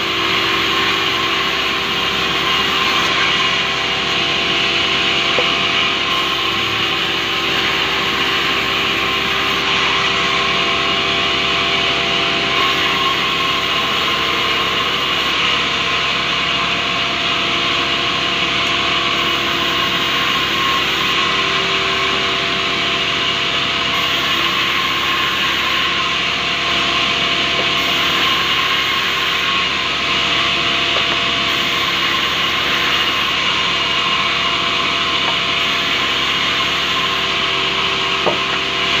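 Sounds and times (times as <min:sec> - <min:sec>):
band saw cutting through log: 0:00.0 - 0:39.0
machine humming: 0:00.0 - 0:39.0.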